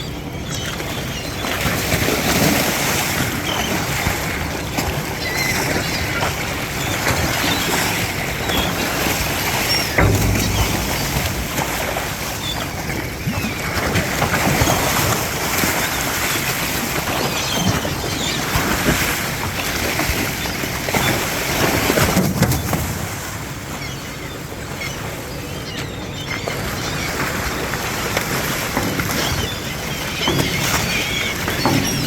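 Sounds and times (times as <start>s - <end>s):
sea water noise: 0.0s - 32.0s.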